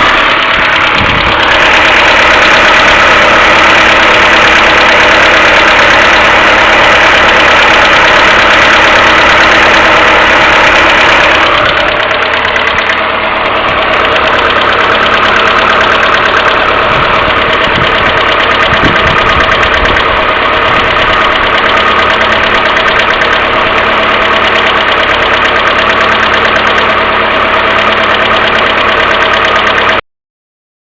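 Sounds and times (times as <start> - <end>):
continuous engine hum: 0.0 - 30.0
engine idling with rapid knocking: 0.0 - 30.0.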